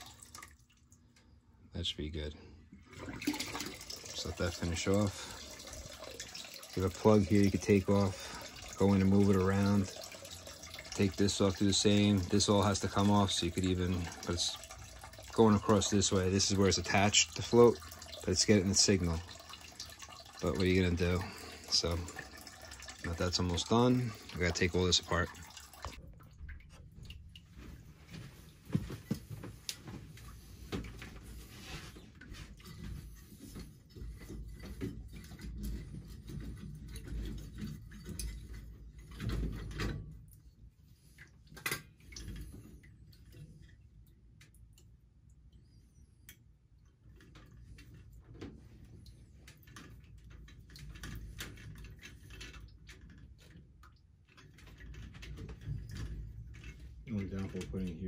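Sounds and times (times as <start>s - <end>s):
small clicks and rattles of fittings: 3.3s - 58.0s.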